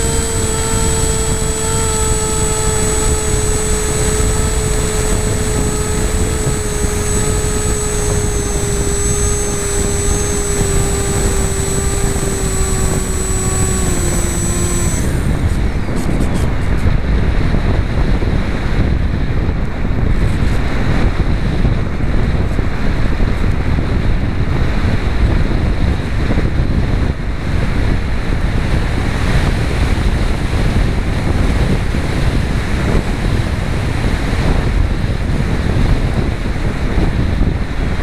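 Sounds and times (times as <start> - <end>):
faint high whine: 0.0 - 38.0
wind buffeting microphone: 0.0 - 38.0.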